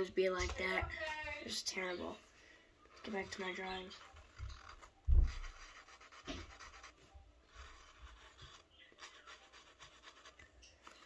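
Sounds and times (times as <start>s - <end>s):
faint rubbing and rustling: 1.9s - 11.0s.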